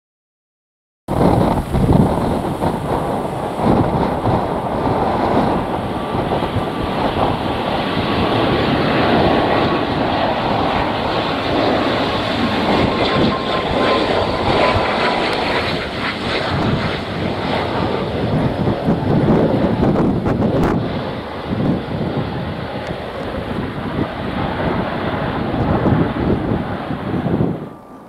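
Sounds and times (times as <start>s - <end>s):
turboprop aircraft drone: 1.1s - 28.0s
wind on microphone: 1.1s - 28.0s.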